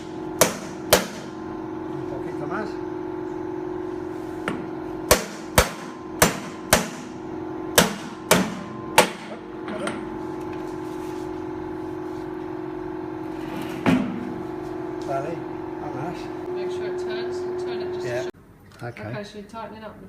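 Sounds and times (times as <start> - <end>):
steady hum: 0.0 - 18.6.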